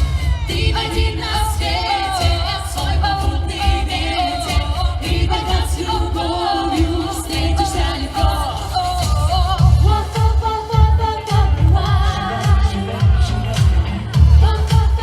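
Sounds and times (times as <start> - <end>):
backing track with low beat: 0.0 - 15.0
voices singing in harmony: 0.0 - 15.0.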